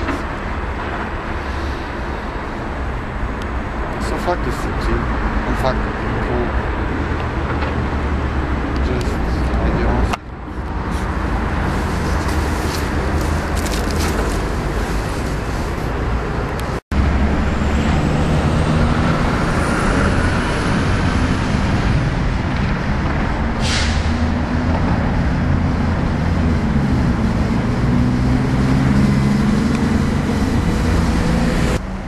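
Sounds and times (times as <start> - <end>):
heavy vehicle engine running: 0.0 - 32.0
road traffic: 0.0 - 32.0.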